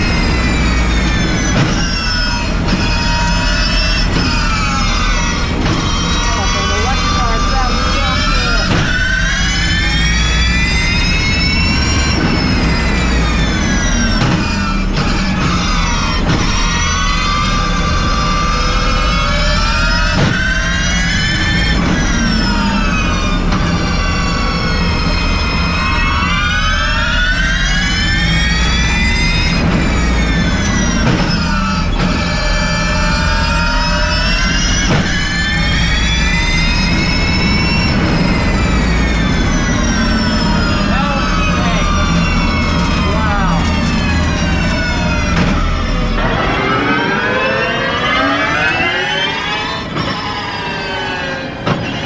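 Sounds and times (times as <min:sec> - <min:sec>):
electric motors whining: 0:00.0 - 0:52.0
tyre and road rumble: 0:00.0 - 0:52.0.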